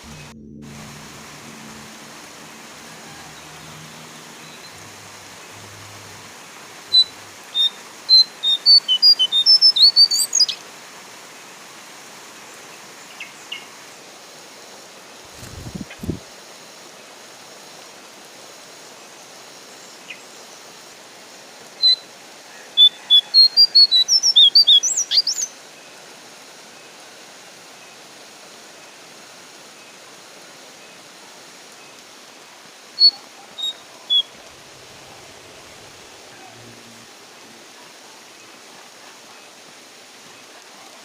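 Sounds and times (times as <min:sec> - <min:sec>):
rain hiss: 0:00.0 - 0:41.0.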